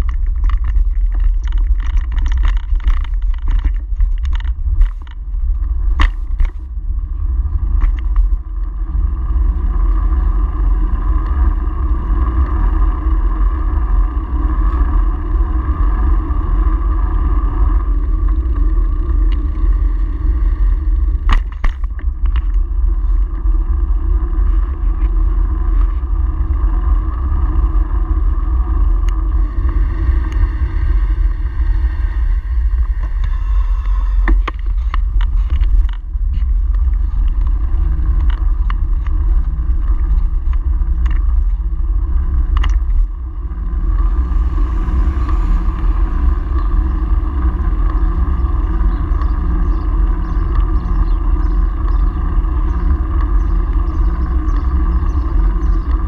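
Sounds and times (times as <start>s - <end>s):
wind and road rumble: 0.0s - 56.0s.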